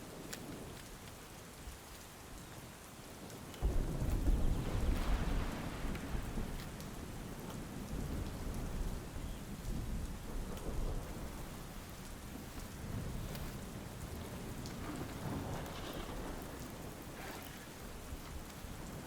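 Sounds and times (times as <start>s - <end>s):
heavy rain: 0.0s - 19.0s
raindrop ticks: 0.0s - 19.0s
rolling thunder: 3.6s - 19.0s.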